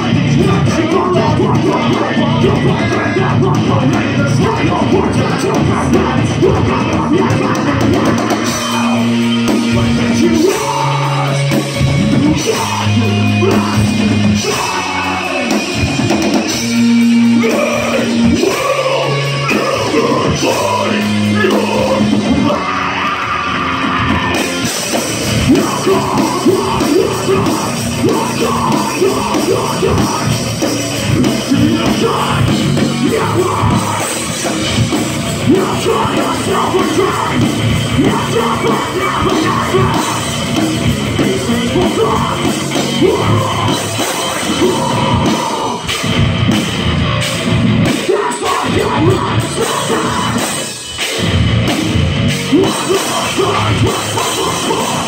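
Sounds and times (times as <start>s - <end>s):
distorted guitars: 0.0s - 55.0s
drums: 0.0s - 55.0s
yelled vocals: 0.0s - 55.0s.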